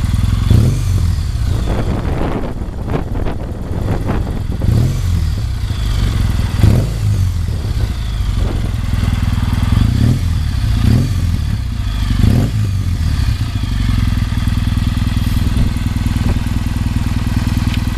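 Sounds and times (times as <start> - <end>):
motorcycle engine idling: 0.0 - 17.9
motorcycle throttle blips: 0.0 - 17.9.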